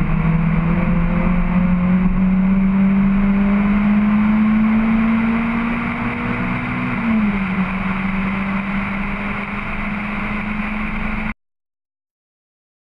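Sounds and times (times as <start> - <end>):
car engine at high revs: 0.0 - 11.3
road and wind noise: 0.0 - 11.4.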